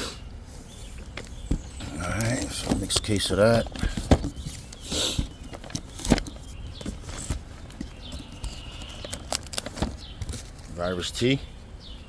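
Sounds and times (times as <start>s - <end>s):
rustling: 0.5s - 10.9s.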